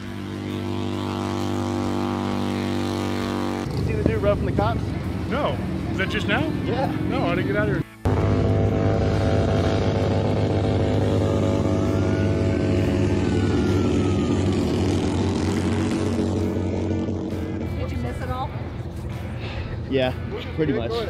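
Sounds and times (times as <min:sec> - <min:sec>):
engine revving high: 0:00.0 - 0:20.3.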